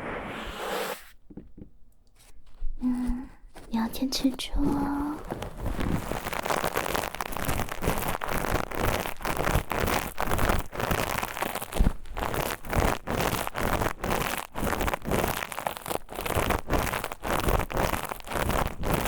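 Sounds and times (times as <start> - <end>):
scratching on binaural microphone: 0.0 - 19.0.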